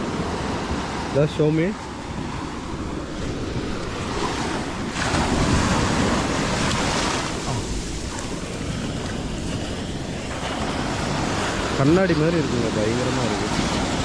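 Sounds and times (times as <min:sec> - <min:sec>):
sea waves washing up beach: 0:00.0 - 0:14.0
wind rumbling on microphone: 0:00.0 - 0:14.0.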